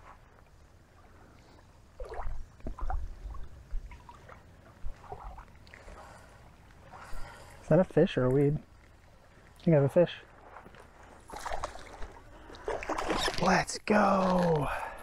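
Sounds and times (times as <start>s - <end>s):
small waves lapping: 0.0s - 14.8s.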